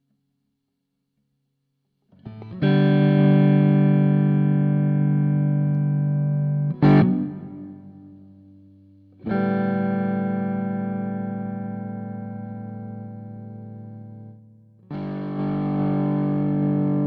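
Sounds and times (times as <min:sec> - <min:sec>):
electric guitar chord with light distortion: 0:02.1 - 0:17.0
electric guitar chord strummed: 0:02.3 - 0:08.5, 0:09.2 - 0:17.0.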